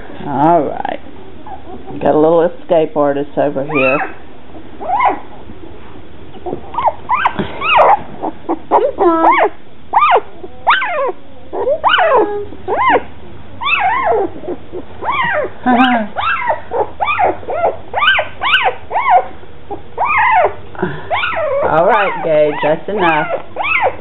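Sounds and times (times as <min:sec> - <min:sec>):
puppies squealing: 0:01.4 - 0:02.0, 0:03.7 - 0:05.5, 0:06.4 - 0:24.0.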